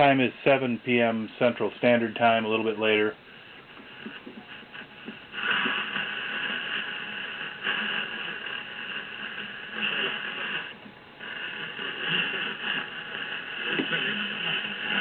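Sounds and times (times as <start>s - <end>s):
radio static and whistling squeal: 0.0s - 15.0s.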